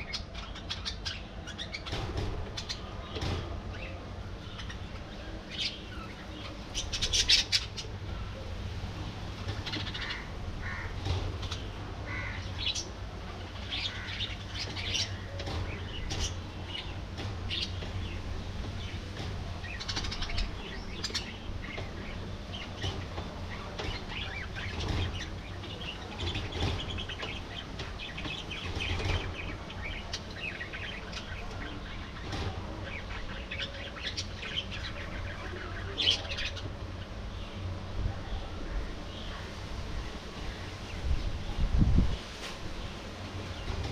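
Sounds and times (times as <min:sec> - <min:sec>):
budgerigars chirping and chattering: 0:00.0 - 0:08.3, 0:09.4 - 0:37.7.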